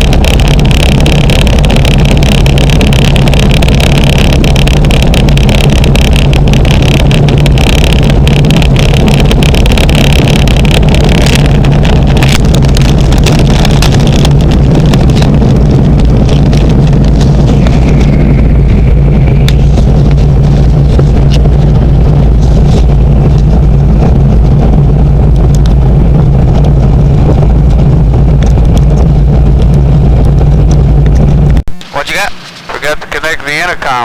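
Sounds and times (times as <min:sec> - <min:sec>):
light aircraft piston engine: 0:00.0 - 0:34.0.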